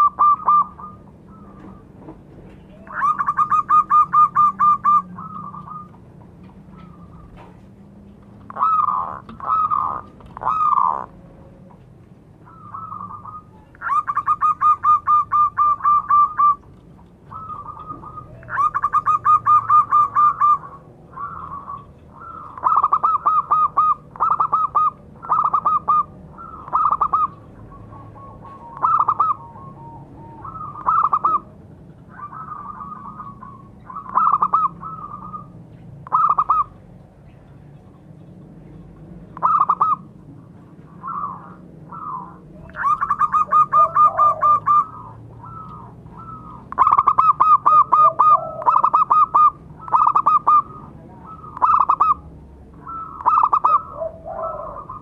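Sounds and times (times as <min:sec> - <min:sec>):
dove cooing: 0:00.0 - 0:07.7, 0:08.3 - 0:36.8, 0:39.3 - 0:55.0.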